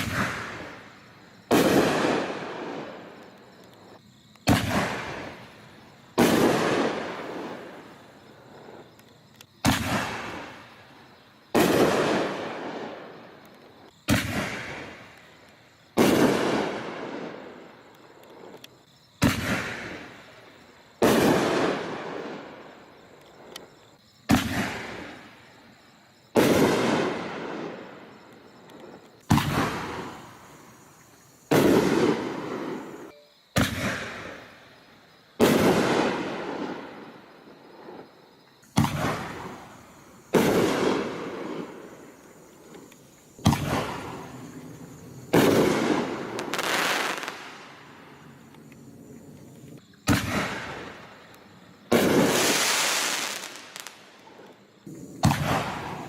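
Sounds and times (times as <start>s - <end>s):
fireworks bangs: 0.0s - 8.9s, 9.6s - 10.9s, 11.5s - 18.6s, 19.2s - 20.4s, 21.0s - 25.5s, 26.3s - 34.8s, 35.4s - 56.0s.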